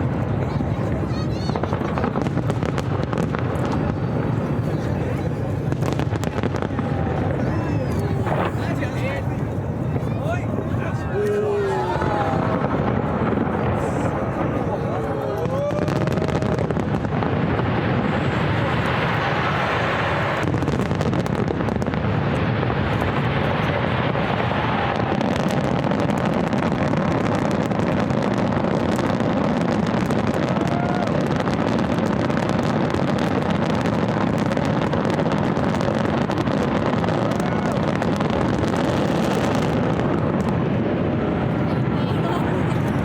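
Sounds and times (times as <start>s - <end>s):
fireworks barrage: 0.0s - 43.0s.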